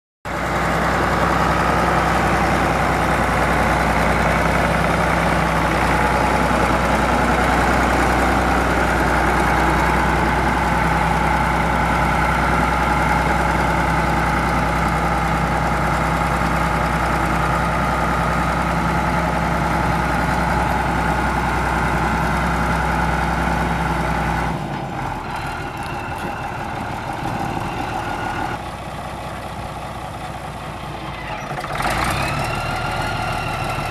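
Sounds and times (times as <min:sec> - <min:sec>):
tractor engine running: 0:00.3 - 0:33.9.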